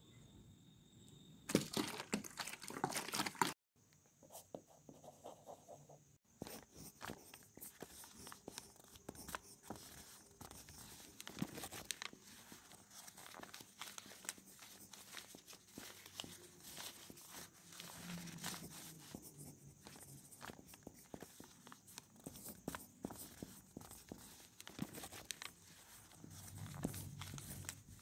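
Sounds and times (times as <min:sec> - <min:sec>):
pen scratching on paper: 0:04.2 - 0:28.0.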